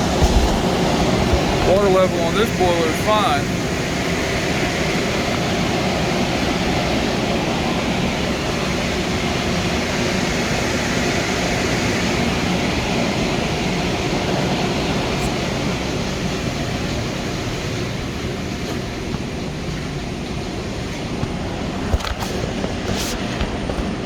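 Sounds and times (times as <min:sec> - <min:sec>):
boiler room machinery roar: 0:00.0 - 0:24.0.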